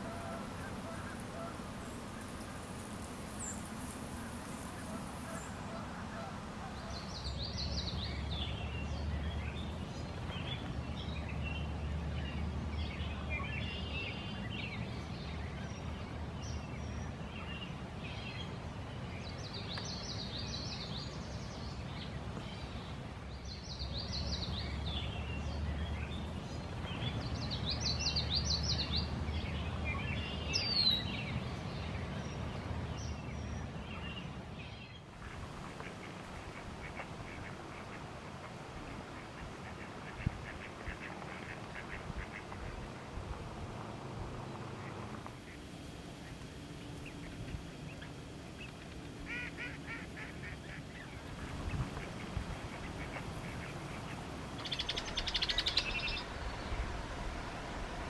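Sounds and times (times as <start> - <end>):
small birds calling and trilling: 0.0 - 43.2, 44.6 - 57.0.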